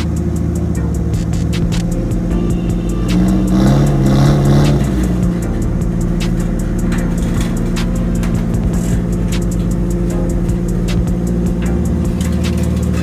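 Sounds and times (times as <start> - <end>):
background music with steady beat: 0.0 - 13.0
car engine revving: 0.0 - 13.0.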